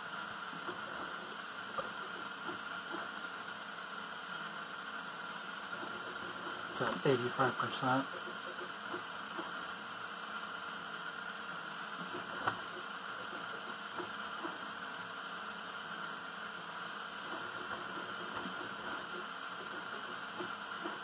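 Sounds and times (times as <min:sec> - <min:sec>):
printer whirring: 0:00.0 - 0:21.0.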